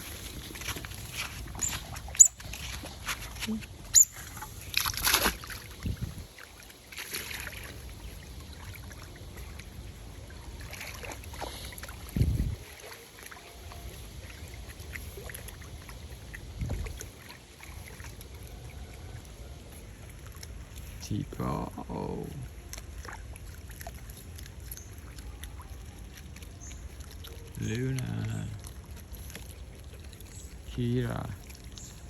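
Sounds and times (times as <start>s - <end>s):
splash: 0.0s - 21.0s, 21.7s - 32.0s
water sloshing and dribbling: 0.0s - 32.0s.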